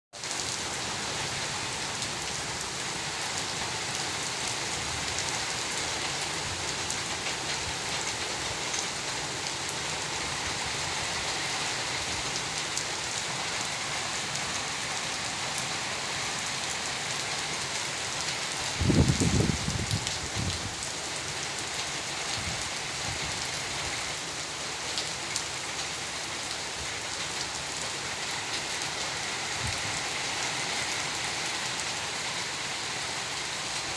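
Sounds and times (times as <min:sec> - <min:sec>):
heavy rain on a sheet roof: 0:00.1 - 0:33.9.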